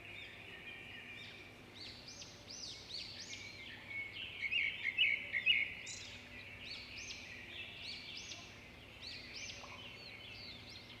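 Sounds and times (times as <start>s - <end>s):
wild birds singing and chirping: 0.0s - 11.0s.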